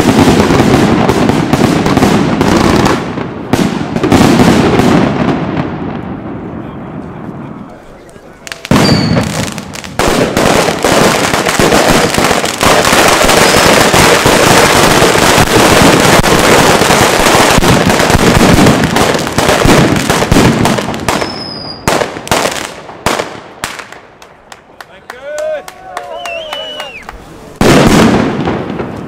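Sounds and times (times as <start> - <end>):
firework cracks and bangs: 0.0 - 24.5, 26.4 - 29.0.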